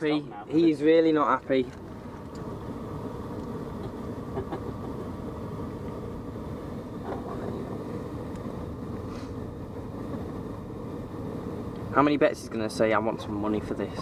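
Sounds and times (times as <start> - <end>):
car engine rumble from cabin: 0.0 - 14.0.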